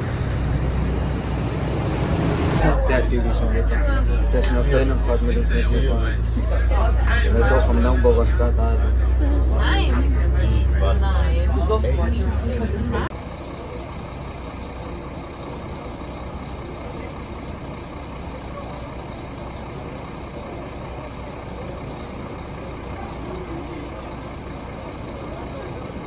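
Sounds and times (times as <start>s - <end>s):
train idling rumble: 0.0s - 26.0s
faint crowd chatter: 2.5s - 26.0s.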